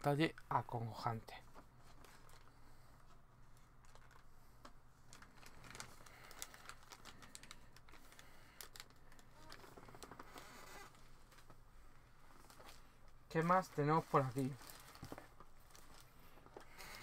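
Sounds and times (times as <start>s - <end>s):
plastic bag rustling: 1.4s - 17.0s.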